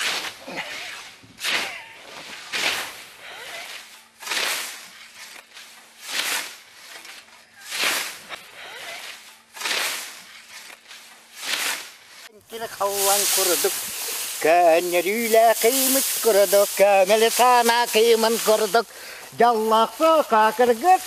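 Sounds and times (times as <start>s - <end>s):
scythe swishing through grass: 0.0s - 21.0s.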